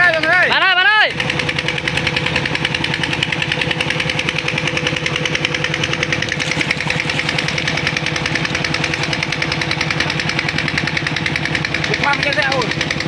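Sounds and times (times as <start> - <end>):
tractor engine knocking steadily: 0.0 - 13.0.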